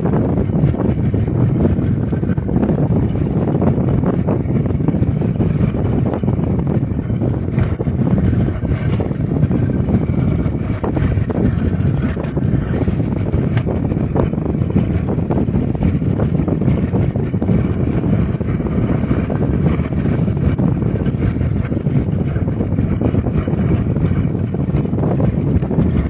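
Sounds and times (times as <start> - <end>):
wind on microphone rumble: 0.0 - 26.0.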